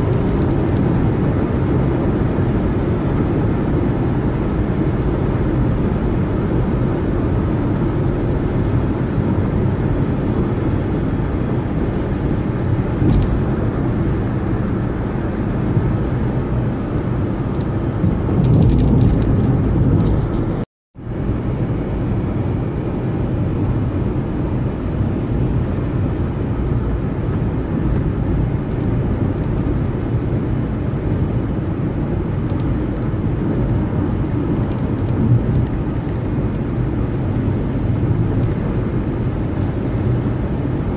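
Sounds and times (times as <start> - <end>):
car road noise at speed: 0.0 - 40.9.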